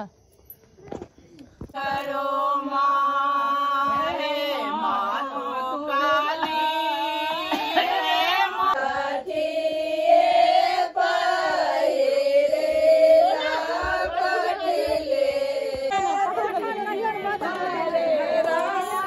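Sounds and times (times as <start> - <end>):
women singing together: 1.7 - 19.0.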